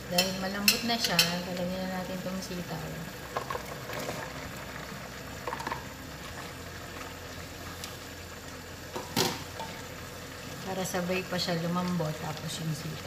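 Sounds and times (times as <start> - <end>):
pot bubbling at the boil: 0.0 - 13.0.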